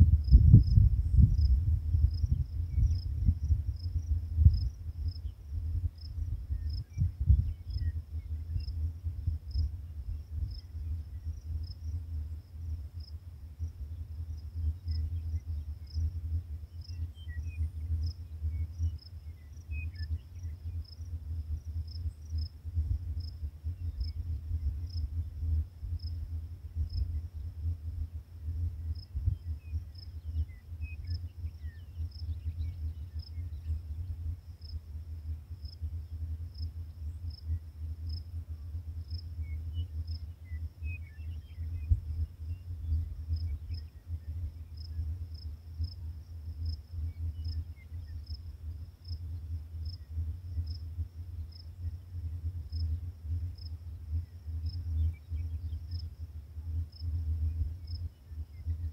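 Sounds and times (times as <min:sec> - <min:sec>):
crickets chirping: 0:00.0 - 0:58.9
low rumble: 0:00.0 - 0:58.9.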